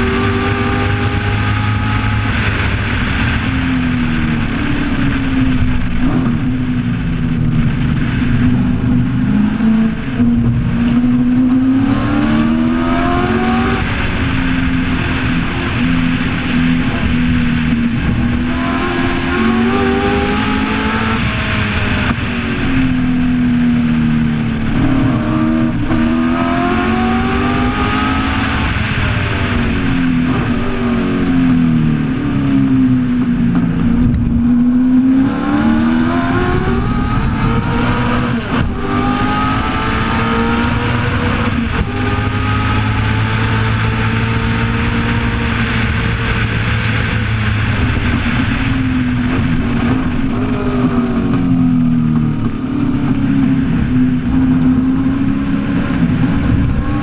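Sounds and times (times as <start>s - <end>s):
racing engine revving: 0.0s - 57.0s
wind rushing: 0.0s - 57.0s.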